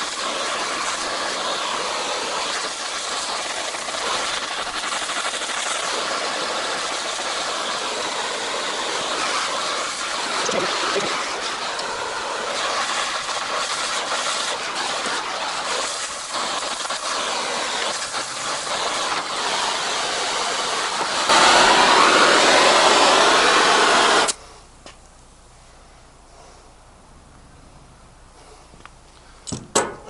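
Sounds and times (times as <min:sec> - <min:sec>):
torch flame hissing: 0:00.0 - 0:24.4.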